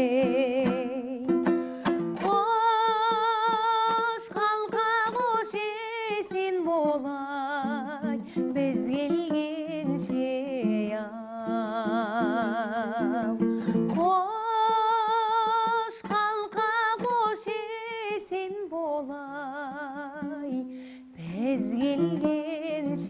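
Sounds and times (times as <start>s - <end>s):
plucked string accompaniment: 0.0s - 23.0s
woman singing with vibrato: 0.0s - 23.0s.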